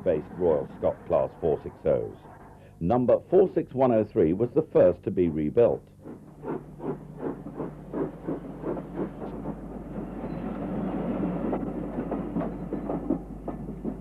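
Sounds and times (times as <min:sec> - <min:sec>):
steam train chugging: 0:00.0 - 0:14.0.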